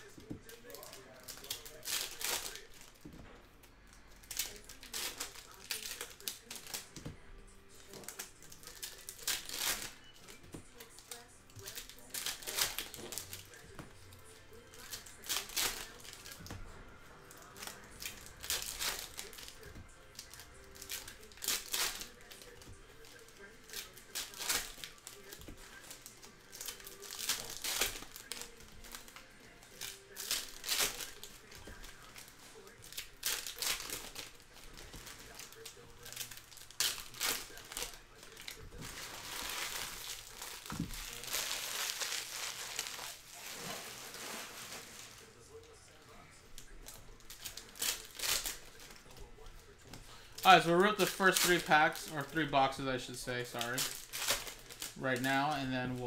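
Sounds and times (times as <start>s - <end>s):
foil wrappers crinkling and tearing: 0.0s - 56.0s.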